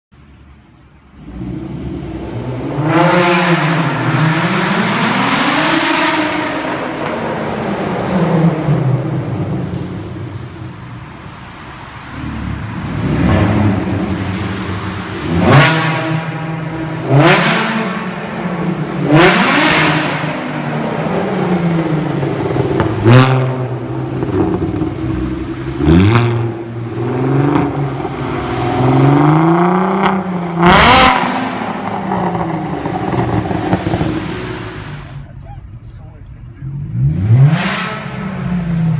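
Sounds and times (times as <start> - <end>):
car engine revving: 1.0 - 38.9.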